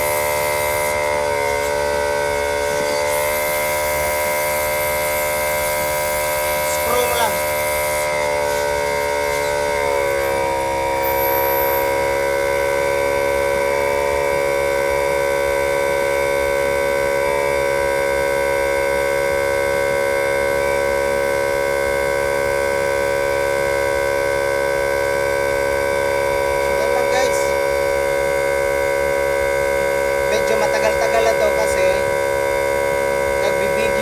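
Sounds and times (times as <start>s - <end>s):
tyre inflator pump humming: 0.0s - 34.0s.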